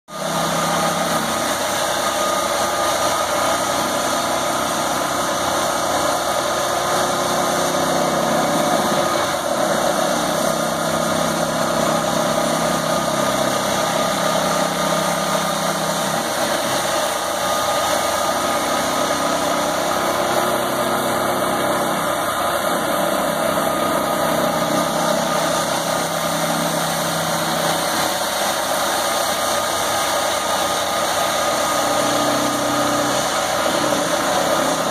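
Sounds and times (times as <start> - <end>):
heavy diesel machinery droning: 0.1 - 34.9
loader engine note: 0.1 - 34.9.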